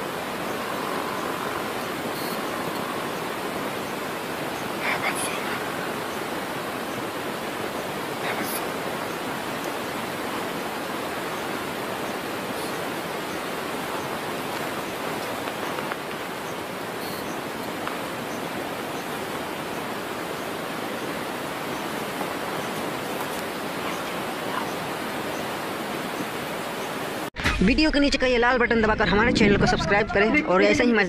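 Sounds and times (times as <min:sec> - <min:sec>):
steady rushing noise: 0:00.0 - 0:27.3.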